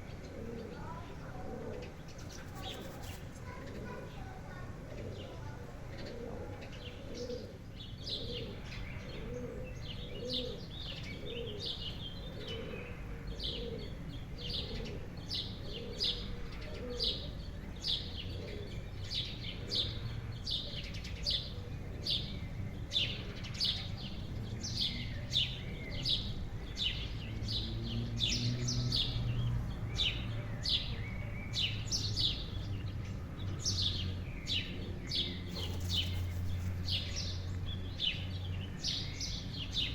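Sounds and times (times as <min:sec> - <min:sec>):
bird chirping: 0:05.9 - 0:39.9.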